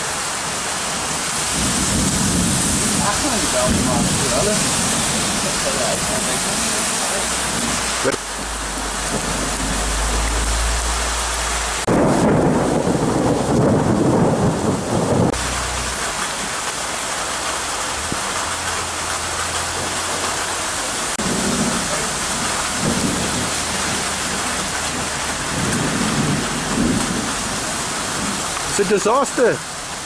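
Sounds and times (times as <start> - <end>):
heavy rain pouring: 0.0 - 30.0
thunder rumbling: 0.9 - 16.6, 19.6 - 28.8.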